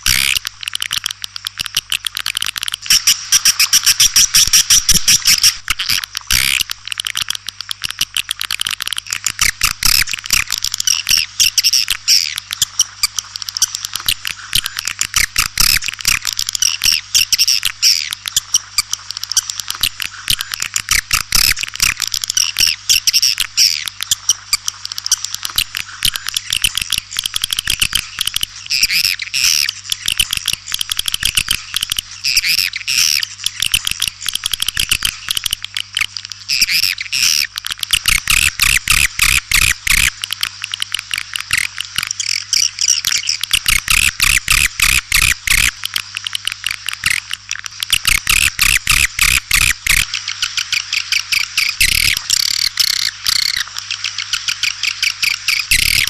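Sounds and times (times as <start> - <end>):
swiftlets clicking twitters: 0.0 - 56.0.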